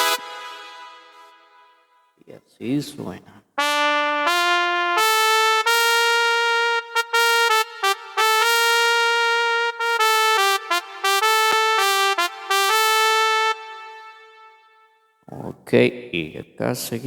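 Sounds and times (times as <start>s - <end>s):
synthesizer trumpet melody: 0.0s - 2.2s, 3.6s - 15.2s.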